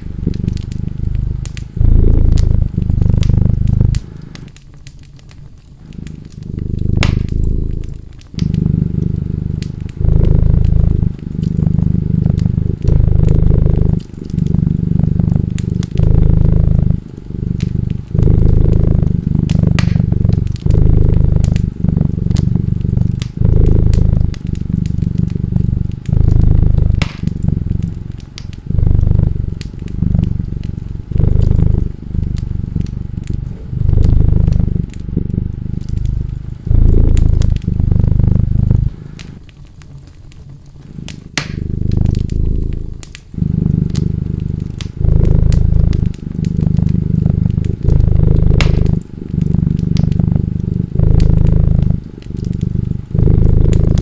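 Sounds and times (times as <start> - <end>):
cat purring: 0.0 - 54.0
wood fire crackling and popping: 0.0 - 54.0.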